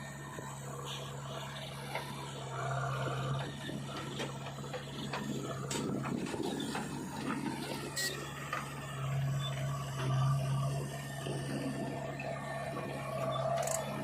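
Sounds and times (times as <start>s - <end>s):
machine engine humming: 0.0s - 14.0s.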